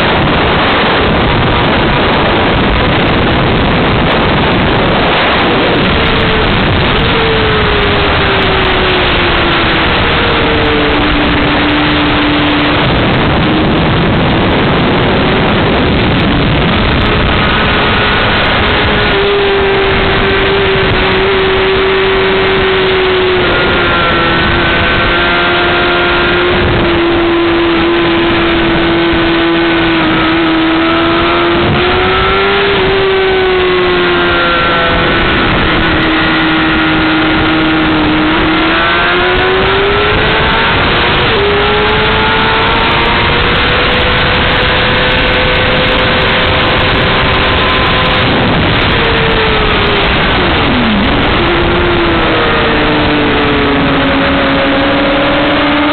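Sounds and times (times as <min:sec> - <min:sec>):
motorcycle engine at high revs: 0:00.0 - 0:55.9
wind and road noise: 0:00.0 - 0:55.9.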